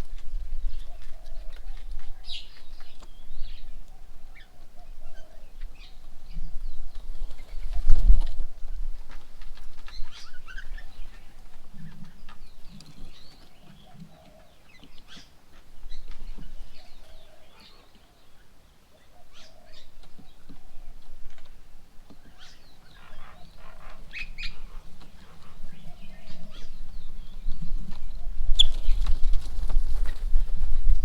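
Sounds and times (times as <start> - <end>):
birds chirping: 0.0 - 30.5.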